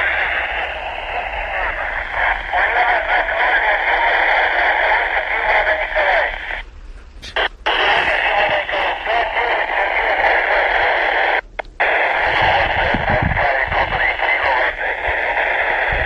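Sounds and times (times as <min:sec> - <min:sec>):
faint wavering radio signal: 0:00.0 - 0:16.0
low rumbles: 0:00.0 - 0:16.0
radio static hiss: 0:00.0 - 0:16.0.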